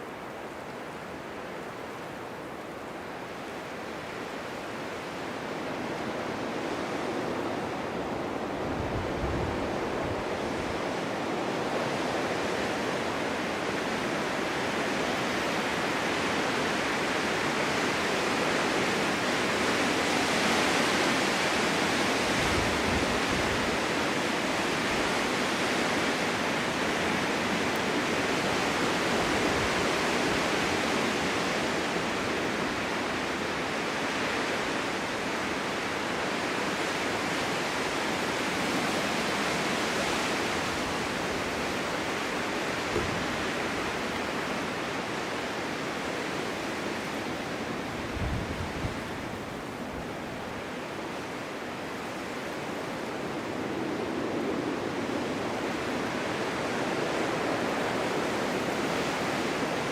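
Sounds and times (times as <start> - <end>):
low rumbling wind gusts: 0.0 - 59.9.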